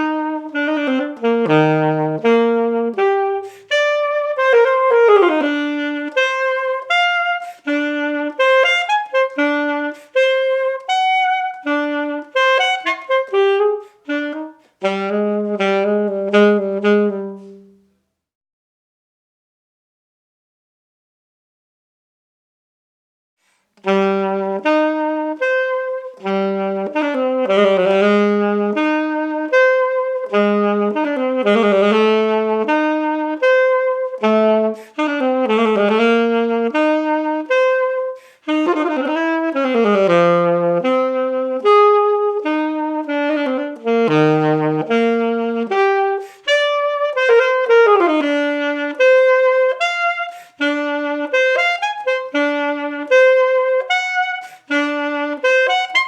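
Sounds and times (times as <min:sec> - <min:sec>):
alto saxophone solo: 0:00.0 - 0:18.0, 0:23.4 - 0:56.0.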